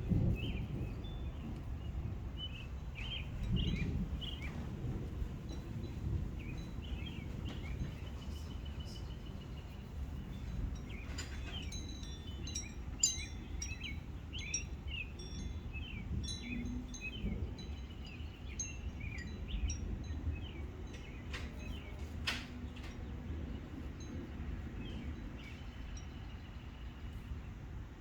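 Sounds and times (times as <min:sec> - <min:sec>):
birds chirping and singing: 0:00.0 - 0:27.5
wind rumble on microphone: 0:00.0 - 0:28.0.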